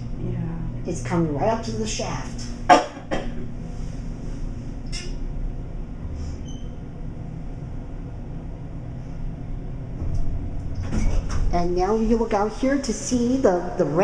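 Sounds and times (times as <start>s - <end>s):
cab fan running: 0.0s - 14.0s
elevator car rumbling: 0.0s - 14.0s.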